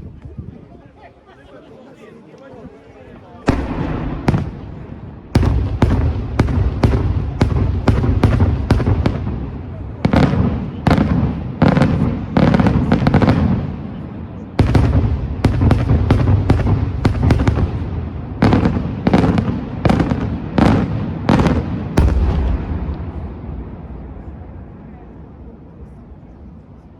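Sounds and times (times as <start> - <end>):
fireworks bangs: 3.4 - 25.0.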